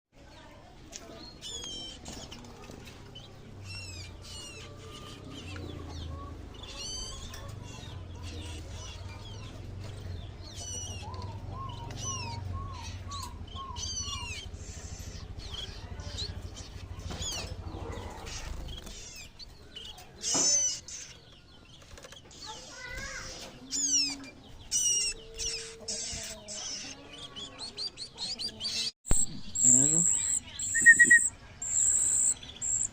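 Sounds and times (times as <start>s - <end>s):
bird chicks chirping: 0.2s - 32.9s.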